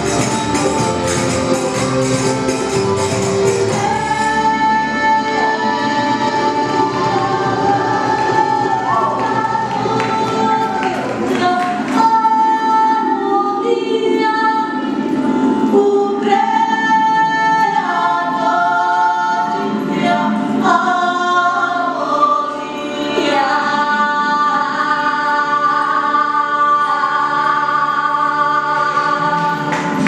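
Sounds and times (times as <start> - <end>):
women singing in close harmony: 3.6 - 30.0.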